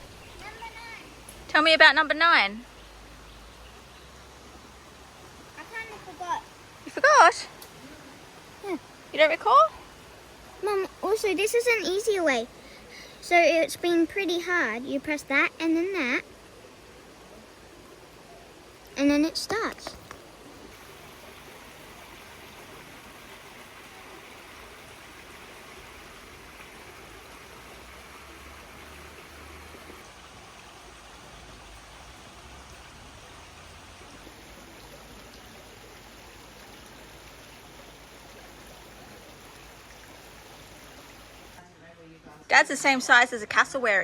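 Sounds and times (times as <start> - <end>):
running water rushing: 0.0 - 41.7.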